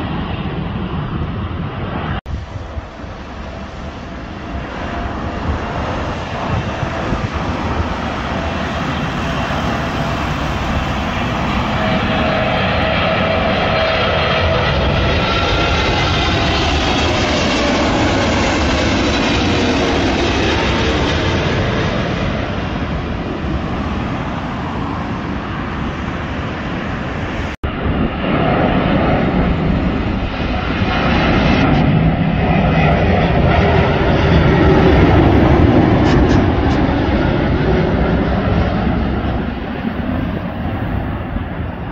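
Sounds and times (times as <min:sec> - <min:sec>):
jet engine rumble: 0:00.0 - 0:41.9
jetliner passing overhead: 0:00.0 - 0:41.9.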